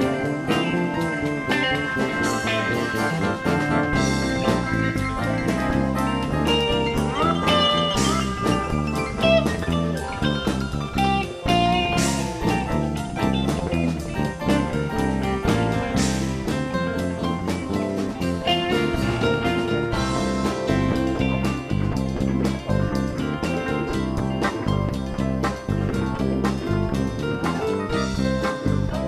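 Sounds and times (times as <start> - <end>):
drum kit: 0.0 - 29.0
electric bass: 0.0 - 29.0
electric guitar lead: 0.0 - 29.0.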